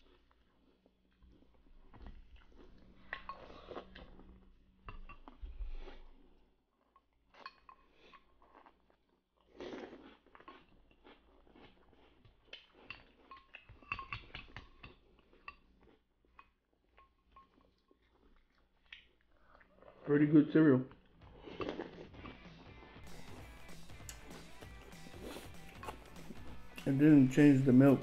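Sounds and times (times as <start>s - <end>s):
chewing cereal: 0.0s - 28.0s.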